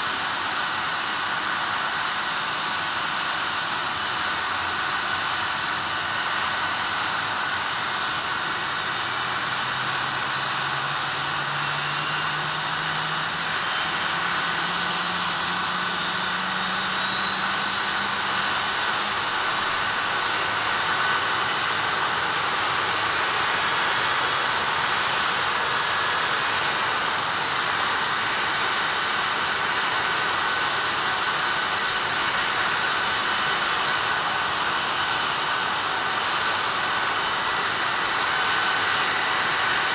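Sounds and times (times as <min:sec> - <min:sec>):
jet engine rush and whine: 0:00.0 - 0:39.9
rising whine: 0:00.3 - 0:39.9.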